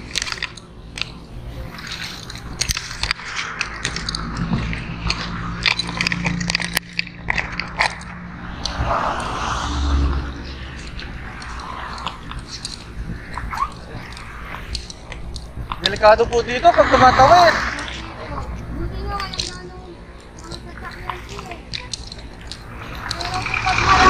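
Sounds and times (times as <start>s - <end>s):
vehicle passing with rumble: 1.2s - 24.0s.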